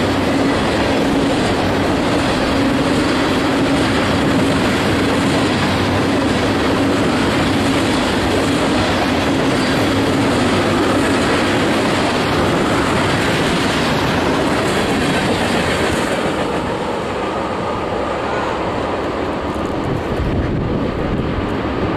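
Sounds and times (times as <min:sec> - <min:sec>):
freight train wheels on rails: 0:00.0 - 0:21.9.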